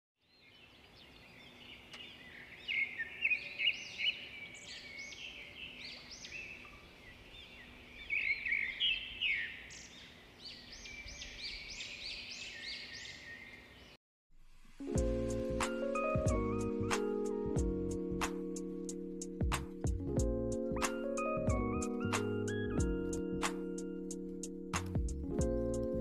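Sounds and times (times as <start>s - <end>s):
small birds chirping: 0.2s - 14.0s, 15.5s - 26.0s.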